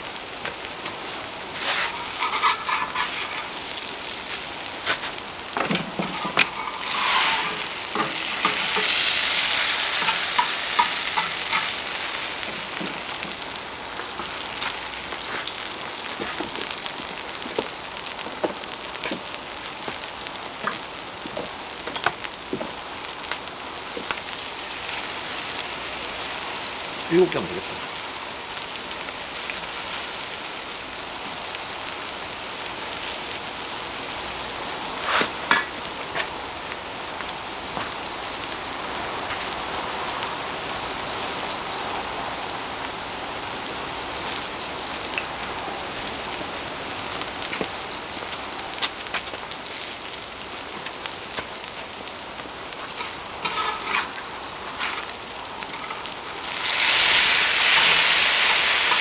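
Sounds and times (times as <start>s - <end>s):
pancakes sizzling in oil: 0.0s - 59.0s.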